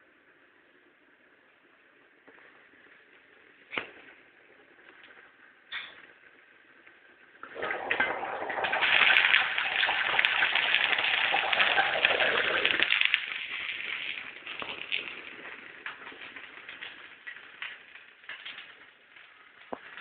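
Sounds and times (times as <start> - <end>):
food bubbling and sizzling in pot: 0.0 - 20.0.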